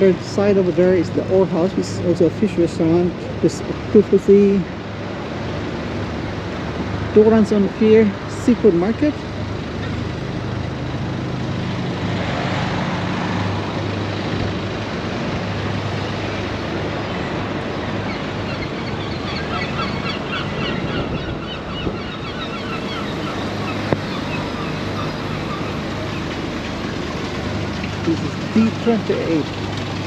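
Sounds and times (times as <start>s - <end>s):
low engine hum: 0.0s - 30.0s
traffic-like noise: 0.0s - 30.0s.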